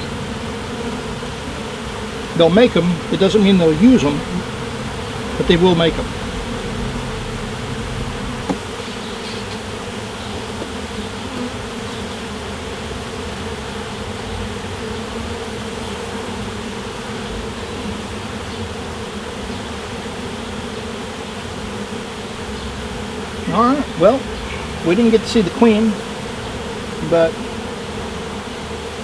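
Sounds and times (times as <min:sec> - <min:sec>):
honey bees buzzing: 0:00.0 - 0:29.0.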